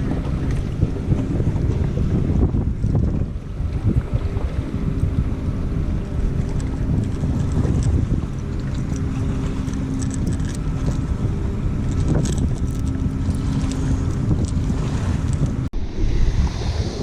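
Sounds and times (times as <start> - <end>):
low steady hum: 0.0 - 17.0
wind buffeting microphone: 0.0 - 17.0.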